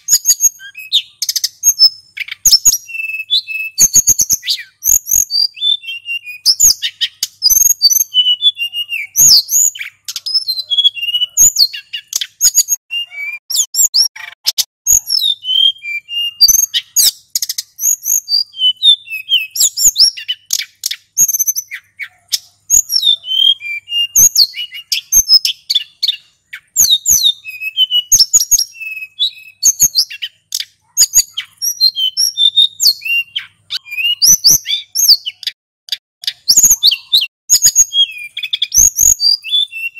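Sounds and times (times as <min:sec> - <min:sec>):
bird singing high whistles: 0:00.0 - 0:35.6, 0:36.2 - 0:39.9.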